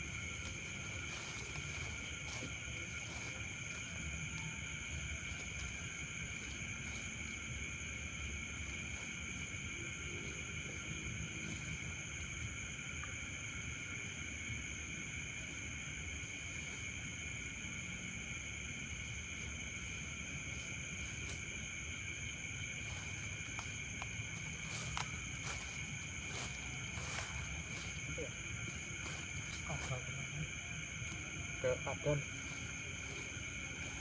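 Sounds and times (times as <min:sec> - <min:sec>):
insect high chirp: 0:00.0 - 0:34.0
night insects trilling: 0:00.0 - 0:34.0.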